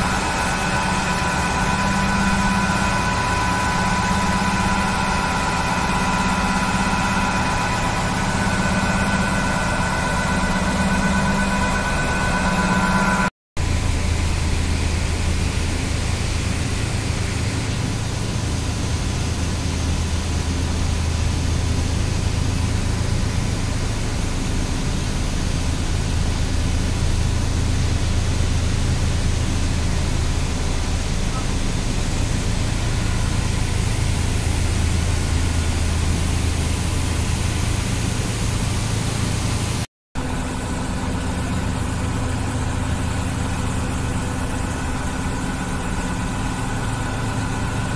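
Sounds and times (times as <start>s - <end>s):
industrial machinery humming: 0.0s - 47.9s.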